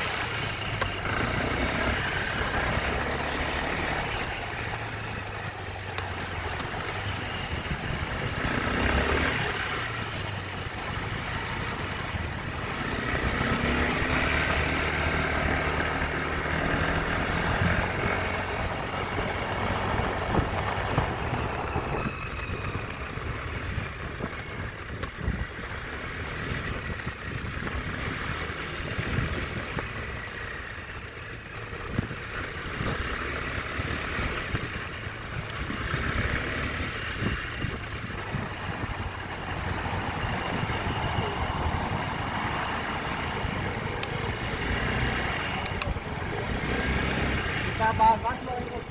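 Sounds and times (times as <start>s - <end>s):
motorbike engine revving: 0.0s - 48.9s
road and wind noise: 0.0s - 48.9s.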